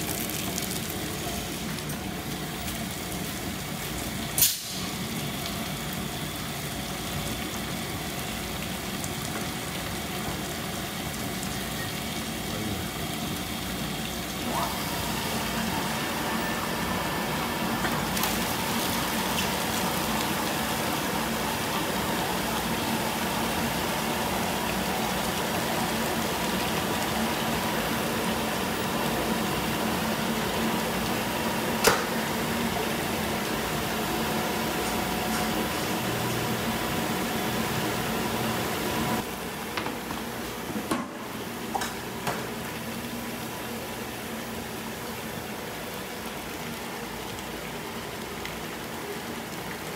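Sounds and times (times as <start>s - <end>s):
machine hum: 5.0s - 45.2s.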